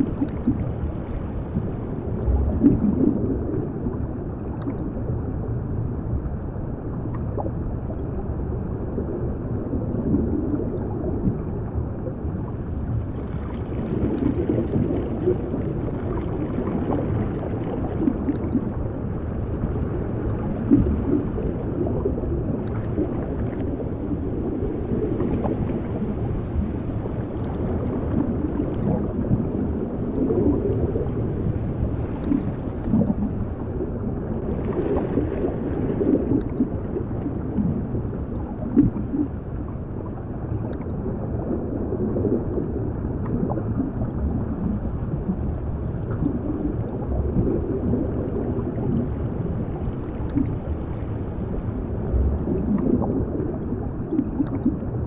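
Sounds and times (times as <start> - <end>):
muffled underwater rumble: 0.0 - 55.0
water bubbling and gurgling: 0.0 - 55.0.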